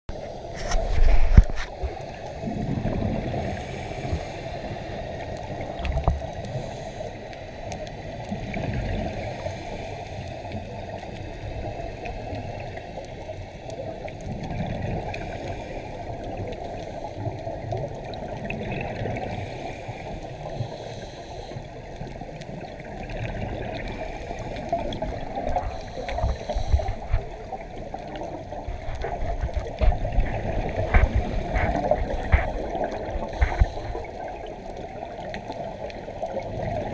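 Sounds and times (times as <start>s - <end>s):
muffled underwater noise: 0.1s - 36.9s.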